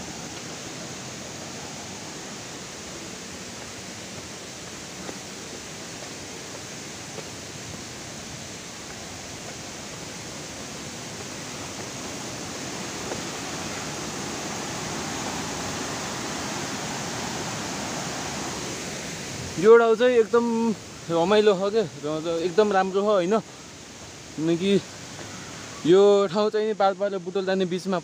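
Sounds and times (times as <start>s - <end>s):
stream and waterfall rushing: 0.0s - 28.0s.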